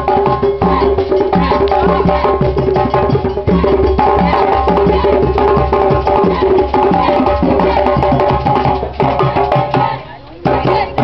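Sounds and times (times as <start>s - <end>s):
percussion music with drums: 0.0s - 11.0s.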